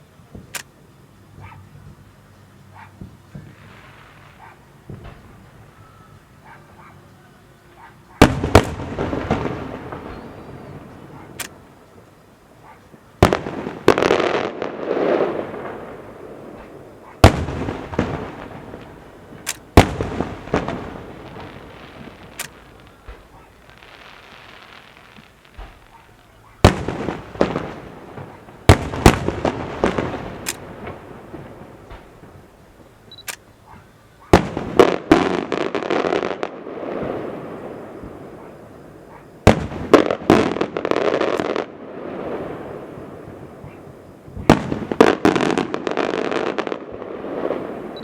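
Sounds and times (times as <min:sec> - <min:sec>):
fireworks bangs: 0:00.0 - 0:48.0
fireworks crackling: 0:00.0 - 0:48.0.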